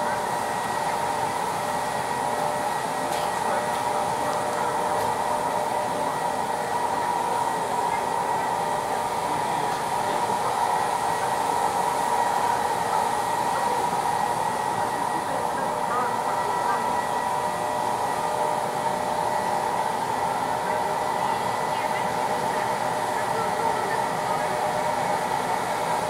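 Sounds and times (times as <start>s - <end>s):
steady machine whine: 0.0s - 26.0s.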